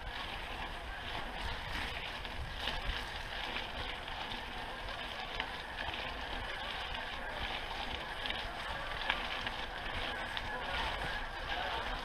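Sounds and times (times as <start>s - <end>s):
tyre crunching over gravel: 0.0s - 12.0s
wind rumble on microphone: 0.0s - 12.0s.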